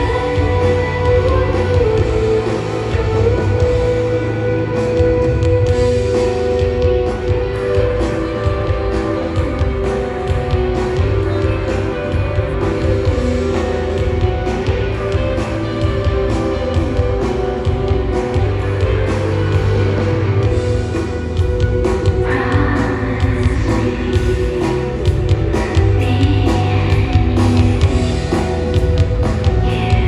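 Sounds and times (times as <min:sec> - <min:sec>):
guitar rock music: 0:00.0 - 0:30.0.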